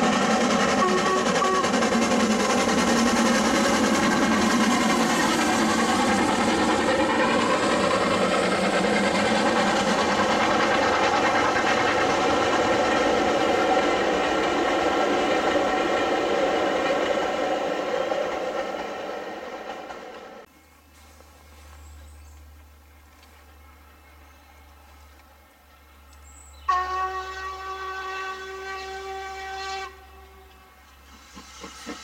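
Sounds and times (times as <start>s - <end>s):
steam train passing: 0.0s - 32.0s
train coaches running: 0.0s - 32.0s.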